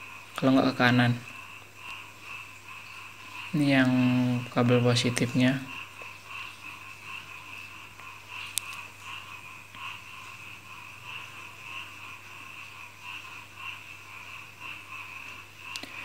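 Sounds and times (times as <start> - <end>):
pulsing chorus of animal calls: 0.0 - 16.0.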